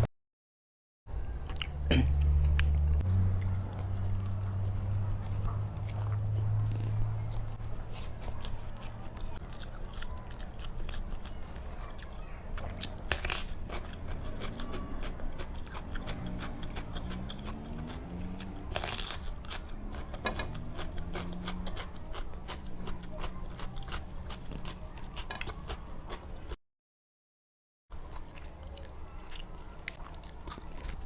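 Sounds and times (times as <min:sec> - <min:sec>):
crunchy bites: 0:01.2 - 0:26.6, 0:28.0 - 0:31.0.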